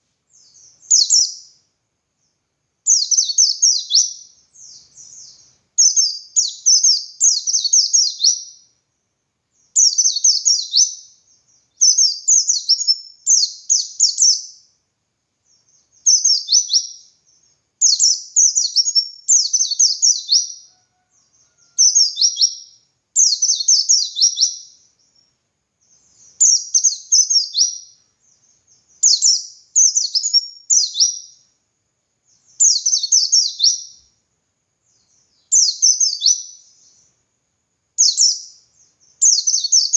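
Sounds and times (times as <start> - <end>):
bird twittering rapidly: 0.4 - 1.6, 2.9 - 8.6, 9.6 - 14.6, 15.6 - 20.5, 21.6 - 31.4, 32.4 - 34.0, 35.0 - 37.0, 38.0 - 39.9.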